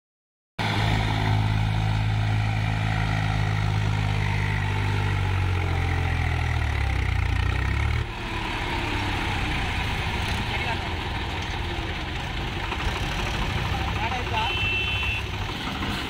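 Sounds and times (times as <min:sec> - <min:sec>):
tractor diesel engine running: 0:00.6 - 0:16.0.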